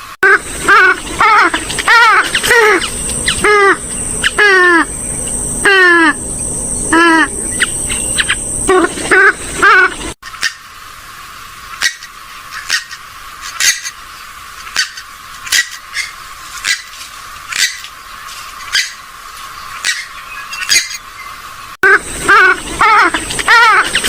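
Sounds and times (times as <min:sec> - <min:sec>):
bird squawking: 0:00.2 - 0:10.8, 0:11.7 - 0:17.9, 0:18.6 - 0:19.0, 0:19.6 - 0:24.0.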